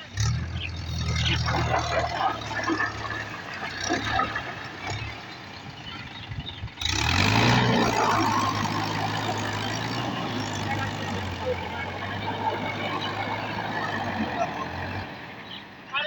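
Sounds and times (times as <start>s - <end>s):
loud engine revving: 0.0s - 16.0s
tractor engine running: 0.0s - 16.0s.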